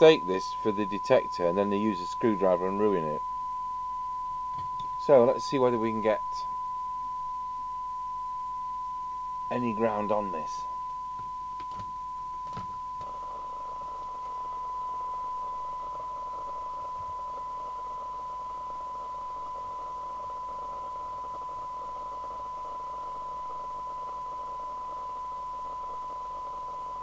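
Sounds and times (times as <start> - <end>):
single-pitched test tone: 0.0 - 27.0.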